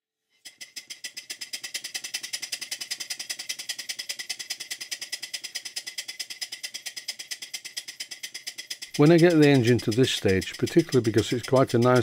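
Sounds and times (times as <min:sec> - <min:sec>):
steam engine exhaust beats: 0:01.0 - 0:12.0.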